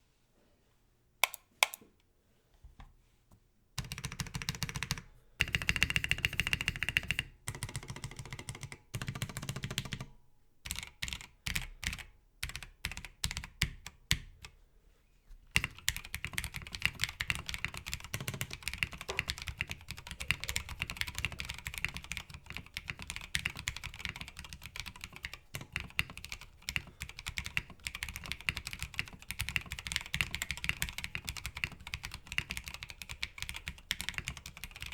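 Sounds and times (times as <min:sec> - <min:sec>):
mechanical keyboard typing: 0:03.8 - 0:10.1, 0:10.7 - 0:14.3, 0:15.6 - 0:34.9.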